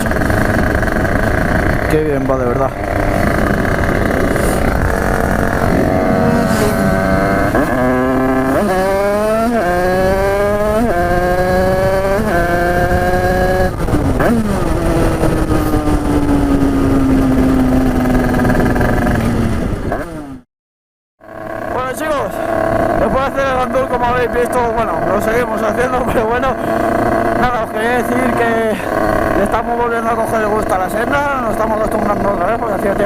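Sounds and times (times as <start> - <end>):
two-stroke motorcycle accelerating: 0.0 - 20.5, 21.2 - 33.0.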